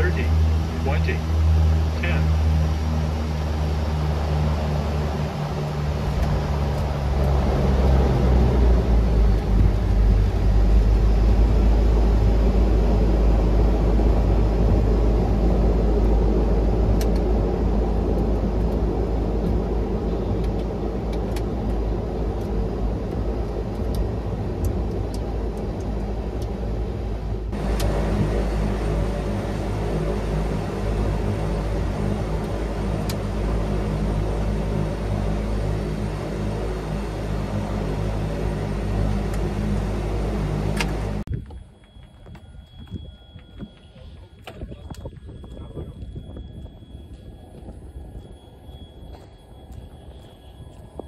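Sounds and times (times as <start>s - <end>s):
turboprop engine rumble: 0.0s - 51.0s.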